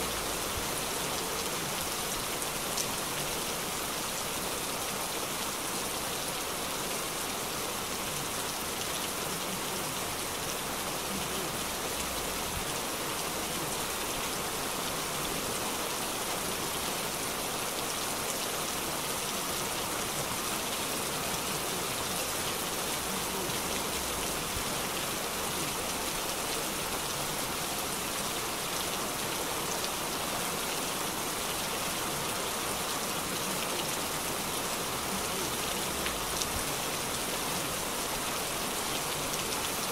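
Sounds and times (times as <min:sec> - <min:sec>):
heavy rain on pavement: 0:00.0 - 0:39.9.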